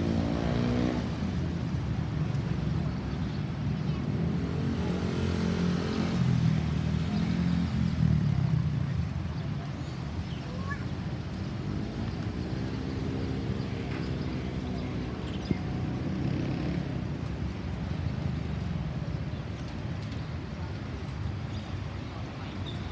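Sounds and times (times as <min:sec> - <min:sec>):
vehicles passing by: 0:00.0 - 0:22.9.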